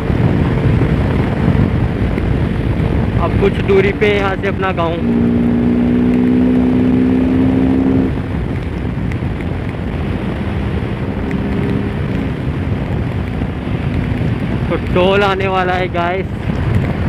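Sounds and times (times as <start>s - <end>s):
motorcycle engine cruising: 0.0s - 17.0s
road noise: 0.0s - 17.0s
wind noise: 0.0s - 17.0s.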